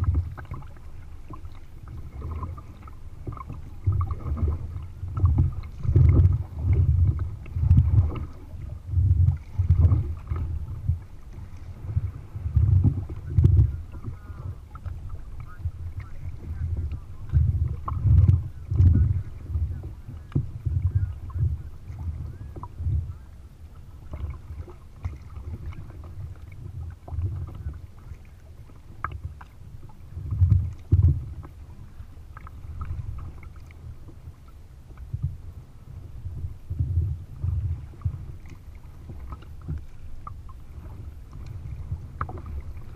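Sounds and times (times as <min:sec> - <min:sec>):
paddle splashes: 0:00.0 - 0:42.9
water slapping against hull: 0:00.0 - 0:42.9.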